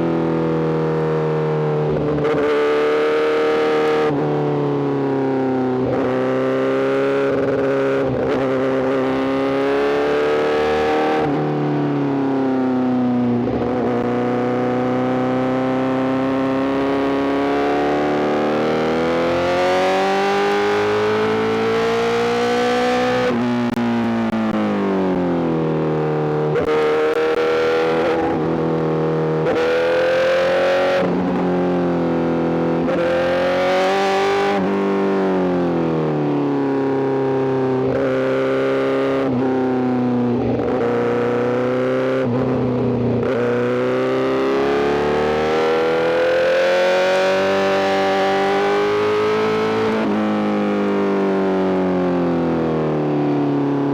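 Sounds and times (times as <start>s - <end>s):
motorcycle engine accelerating: 0.2s - 53.9s.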